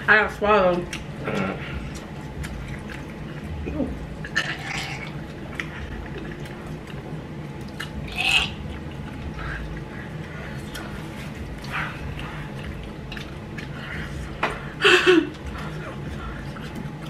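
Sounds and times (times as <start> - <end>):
person chewing and swallowing: 0.9 - 17.0.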